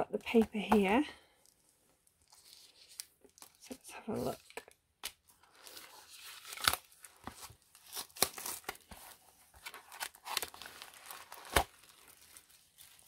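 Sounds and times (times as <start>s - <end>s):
plastic wrapper crinkling and tearing: 0.3s - 13.0s.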